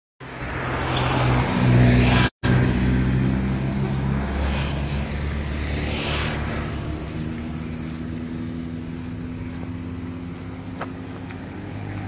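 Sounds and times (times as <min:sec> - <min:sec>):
vehicle engine humming: 0:00.2 - 0:12.0.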